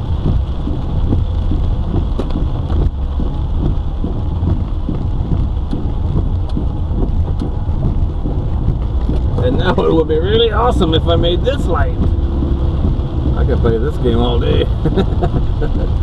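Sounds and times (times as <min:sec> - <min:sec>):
car and tyres rumbling: 0:00.0 - 0:16.0
rain striking car roof: 0:00.0 - 0:16.0.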